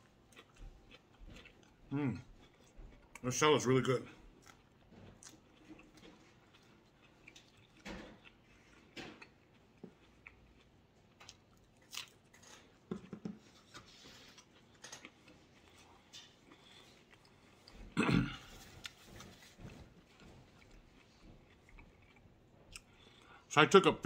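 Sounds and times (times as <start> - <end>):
chewing salad: 0.0 - 23.5.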